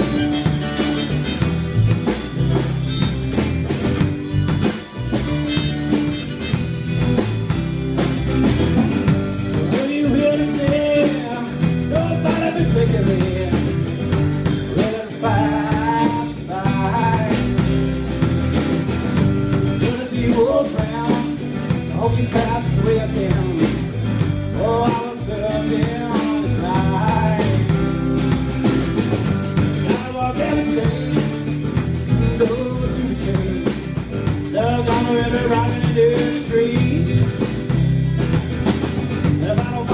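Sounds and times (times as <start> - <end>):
acoustic guitars strumming: 0.0 - 39.9
drum kit: 0.0 - 39.9
electric bass: 0.0 - 39.9.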